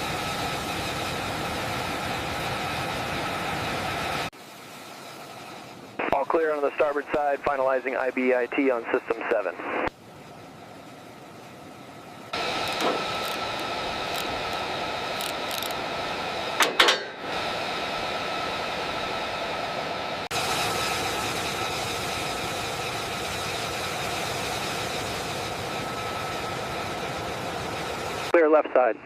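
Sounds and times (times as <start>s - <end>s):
engine whine: 0.0s - 29.0s.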